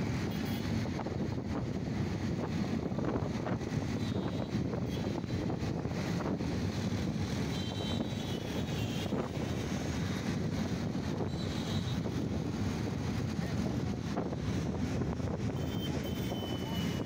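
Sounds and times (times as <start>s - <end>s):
train rumbling: 0.0s - 16.2s.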